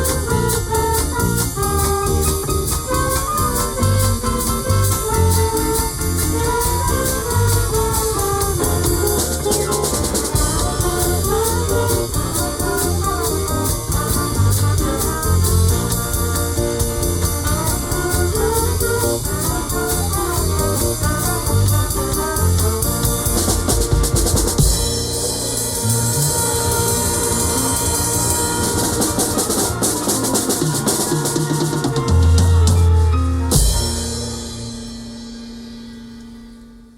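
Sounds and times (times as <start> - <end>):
band playing live: 0.0 - 36.9
bass notes: 0.0 - 36.9.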